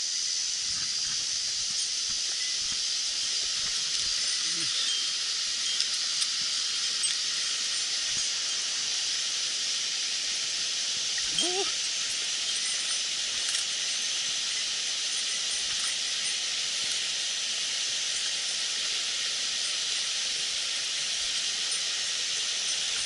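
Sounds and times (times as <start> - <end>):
water rushing over rocks: 0.7 - 23.0.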